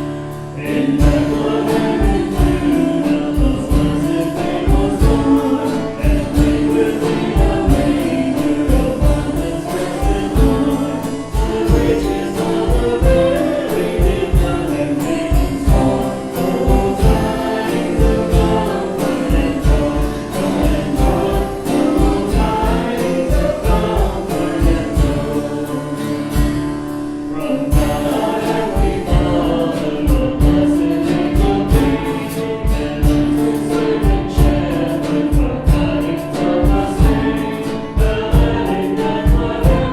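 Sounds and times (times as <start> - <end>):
singing over a band: 0.0 - 39.9
steady drum beat: 0.0 - 39.9.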